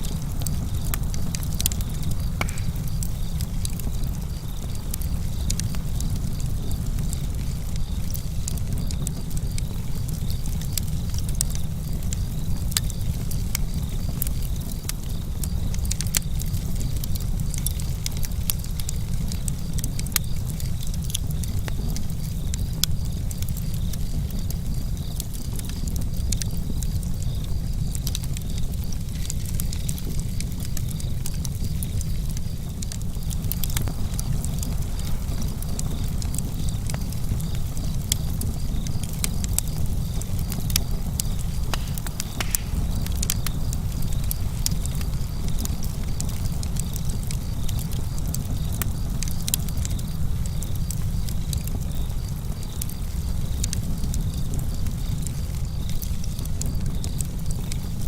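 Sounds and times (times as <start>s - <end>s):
campfire pops and snaps: 0.0s - 58.0s
fire low rumble: 0.0s - 58.0s.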